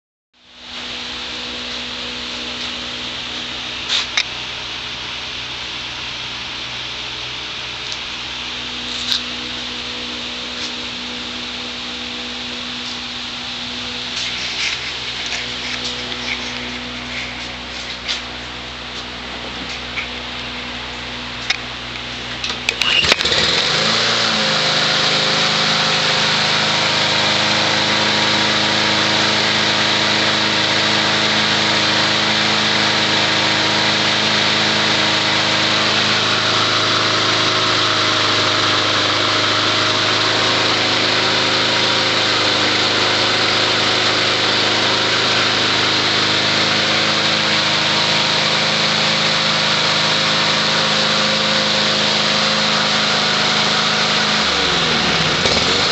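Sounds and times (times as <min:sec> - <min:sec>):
lawn mower engine starting: 0:00.6 - 0:55.9.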